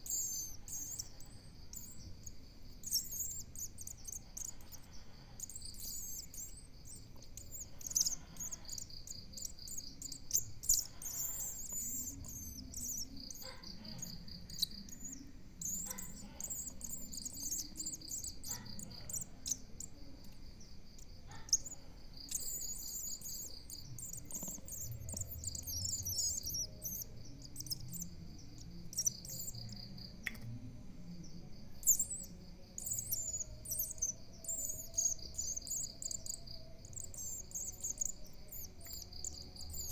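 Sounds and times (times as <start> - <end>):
insect trilling: 0.0 - 30.1, 31.6 - 39.9
high thin bird chirps: 0.0 - 30.4, 31.8 - 39.9.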